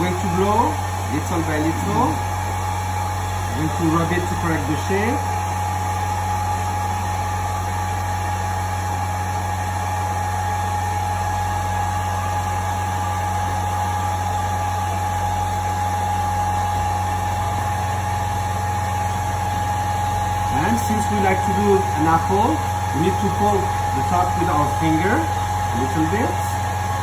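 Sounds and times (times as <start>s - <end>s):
electric fan humming: 0.0s - 27.0s.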